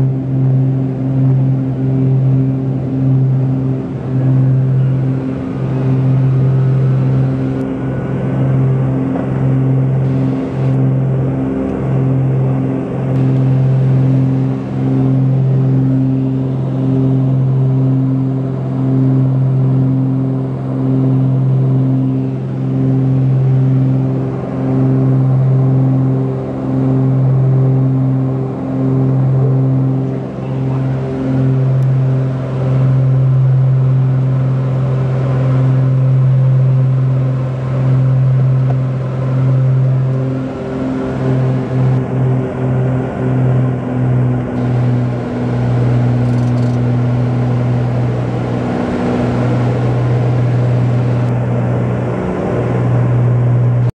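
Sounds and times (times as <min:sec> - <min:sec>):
propeller plane engine drone: 0:00.0 - 0:53.9.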